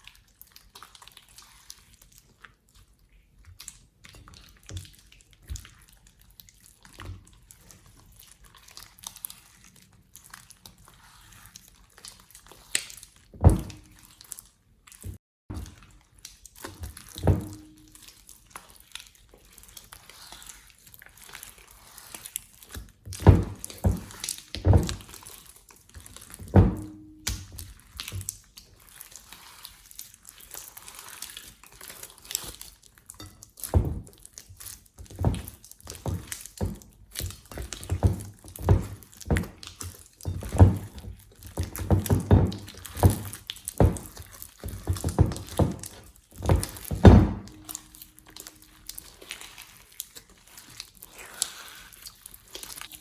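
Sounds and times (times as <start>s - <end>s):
slime squishing: 0.0s - 53.0s.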